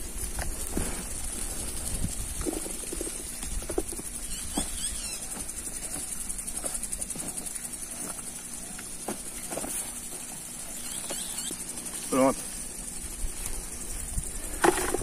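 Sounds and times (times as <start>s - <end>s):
pulsing insect buzzing: 0.0s - 15.0s.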